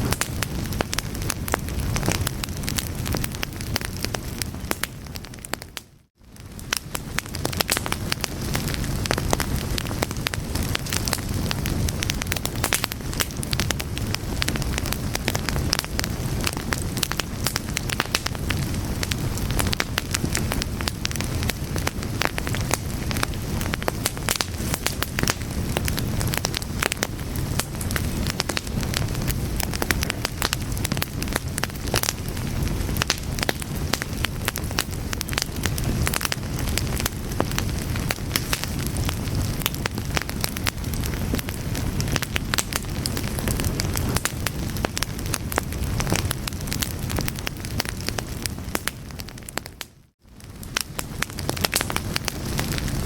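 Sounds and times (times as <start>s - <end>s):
fire crackling: 0.0s - 53.0s.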